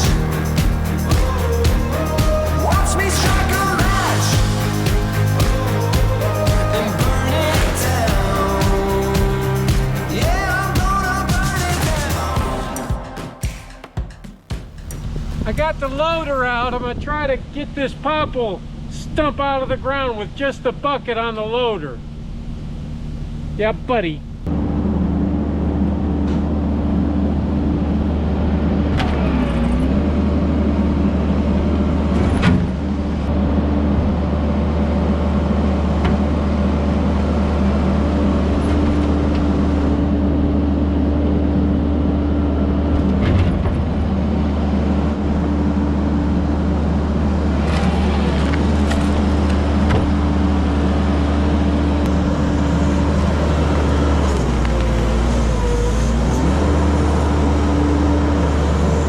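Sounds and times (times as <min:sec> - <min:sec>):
loader engine running: 0:00.0 - 0:13.8, 0:24.2 - 0:59.0.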